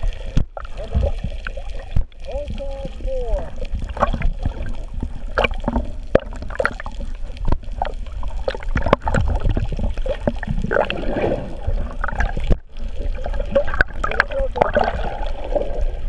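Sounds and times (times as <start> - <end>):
rush of air bubbles: 0.0 - 16.0
water sloshing and gurgling: 0.0 - 16.0.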